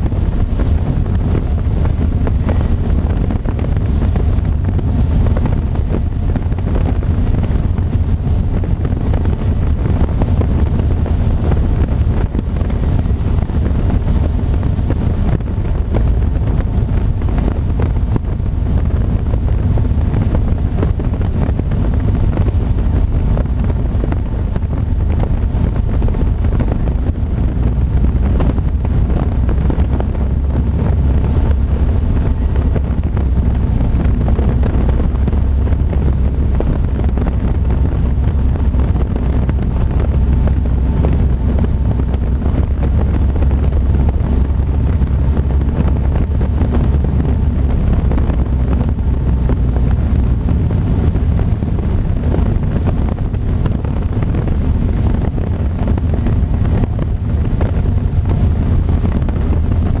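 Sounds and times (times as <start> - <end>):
airplane engine and propeller droning: 0.0 - 60.0
wind rushing over microphone: 0.0 - 60.0.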